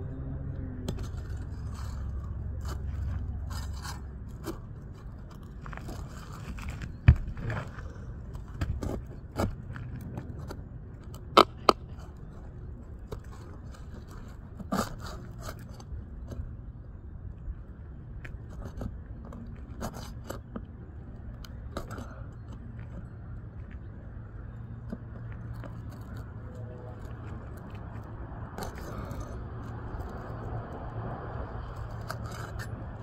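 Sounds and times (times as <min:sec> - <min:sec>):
steady low hum: 0:00.0 - 0:33.0
handling scrapes and clicks: 0:00.8 - 0:16.5, 0:18.2 - 0:33.0.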